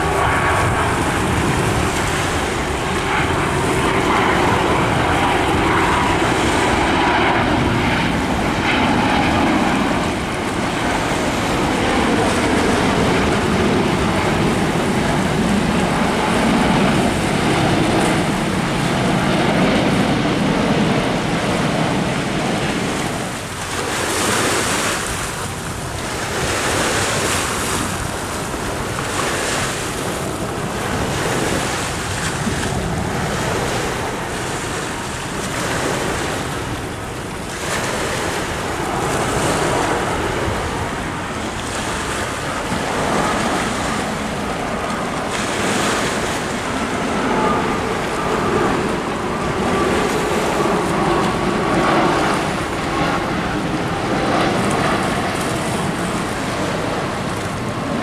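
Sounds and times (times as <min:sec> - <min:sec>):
airliner jet engine rumble: 0:00.0 - 0:58.0
surf washing on shore: 0:00.0 - 0:58.0
wind buffeting microphone: 0:00.0 - 0:58.0.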